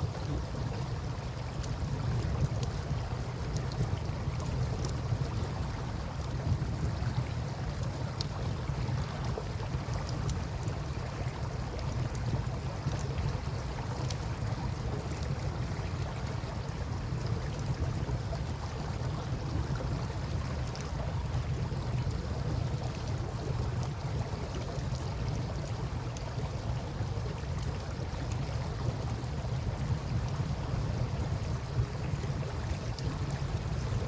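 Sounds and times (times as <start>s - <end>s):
campfire crackling: 1.4s - 34.0s.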